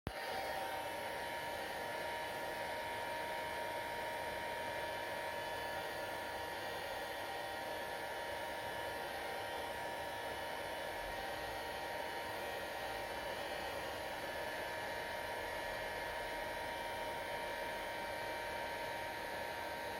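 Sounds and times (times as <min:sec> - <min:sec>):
hair dryer blowing: 0:00.1 - 0:19.9.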